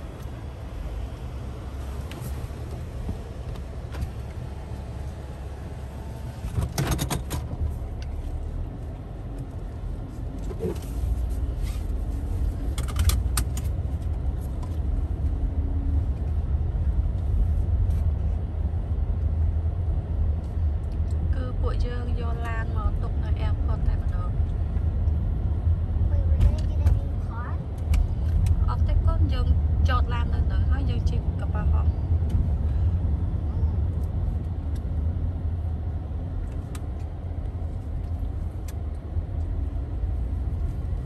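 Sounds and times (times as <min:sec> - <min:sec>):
car engine and road rumble: 0:00.0 - 0:41.0.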